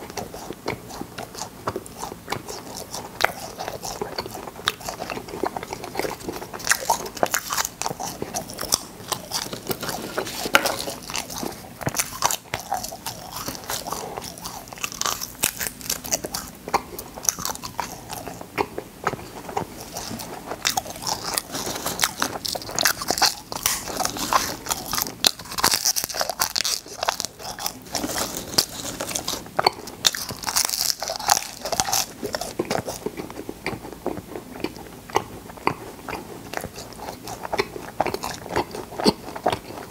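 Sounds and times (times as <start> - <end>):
chewing popping candy: 0.0 - 39.9.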